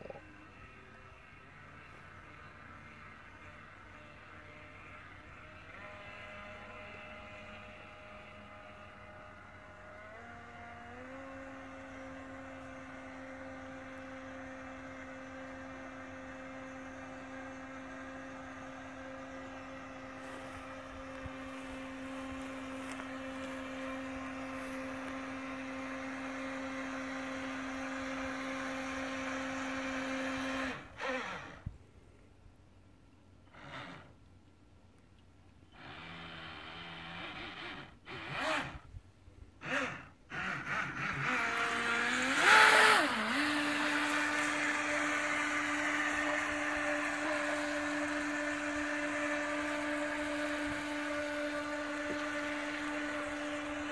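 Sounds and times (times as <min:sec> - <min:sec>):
model boat motor whining: 0:00.0 - 0:32.3, 0:33.3 - 0:53.9.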